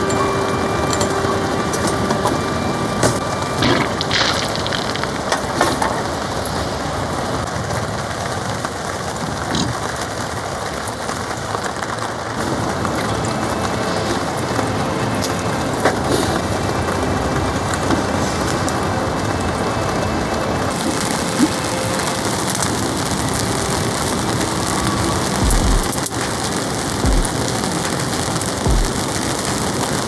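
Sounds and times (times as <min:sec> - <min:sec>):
heavy rain drumming on a tarp: 0:00.0 - 0:30.0.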